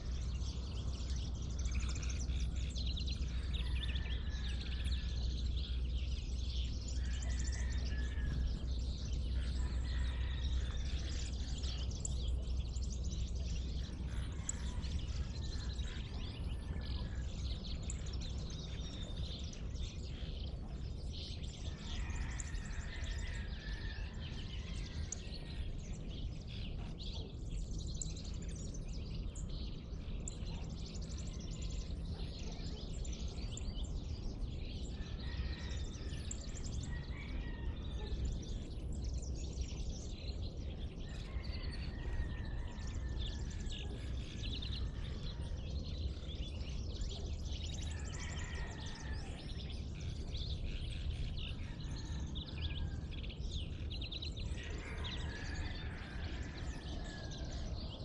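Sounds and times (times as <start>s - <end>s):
birds chirping and singing: 0.0s - 58.0s
low background rumble: 0.0s - 58.0s.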